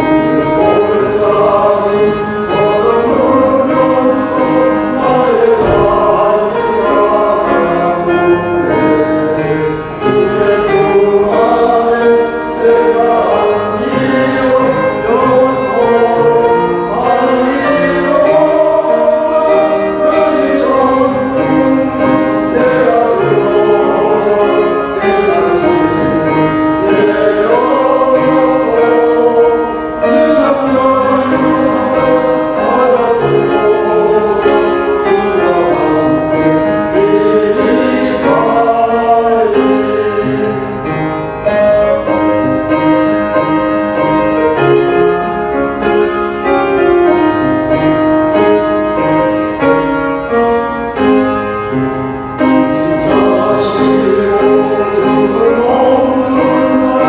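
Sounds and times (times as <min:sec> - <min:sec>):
men's choir singing a hymn: 0:00.0 - 0:57.0.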